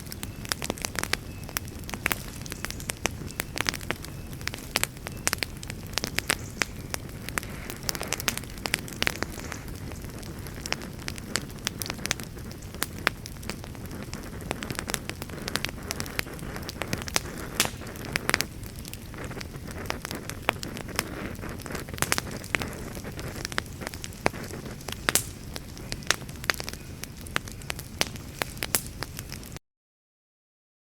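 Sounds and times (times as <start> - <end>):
fire crackles and pops: 0.0 - 29.6
fireplace fire rumbling: 0.0 - 29.6.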